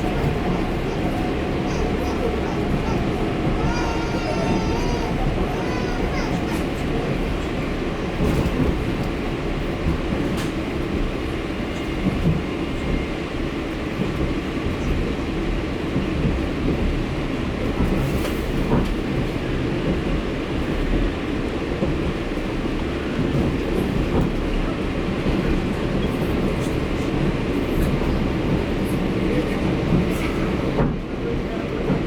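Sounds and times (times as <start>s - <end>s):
diesel locomotive rumbling: 0.0s - 32.0s.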